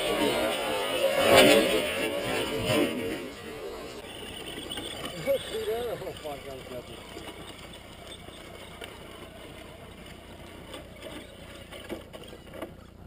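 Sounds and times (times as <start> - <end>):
faint motor whir: 0.0 - 13.0.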